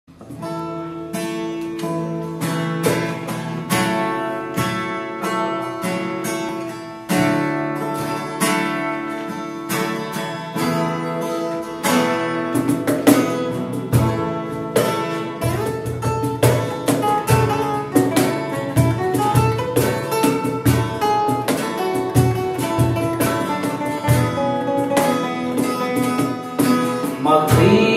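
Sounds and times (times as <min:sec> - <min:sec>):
acoustic guitar playing: 0:00.0 - 0:27.9.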